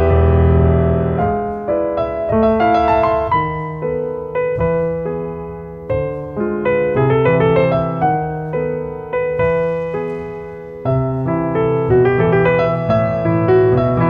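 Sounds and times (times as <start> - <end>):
solo classical piano: 0.0 - 14.0.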